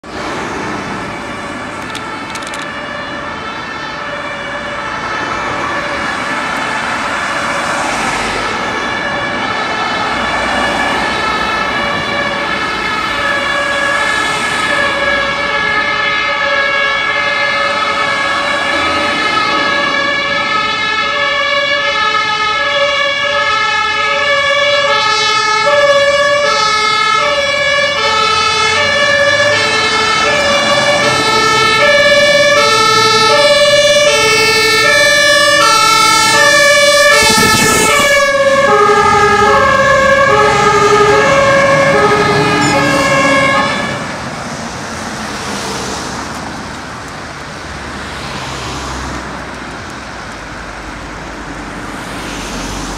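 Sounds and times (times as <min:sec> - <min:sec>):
truck engine and tyre noise: 0:00.0 - 0:52.9
two-tone fire engine sirens: 0:00.0 - 0:52.9.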